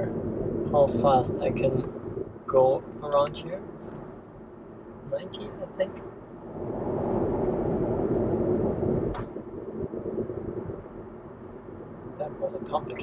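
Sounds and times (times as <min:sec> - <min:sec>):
tyre and road noise in car: 0:00.0 - 0:13.0.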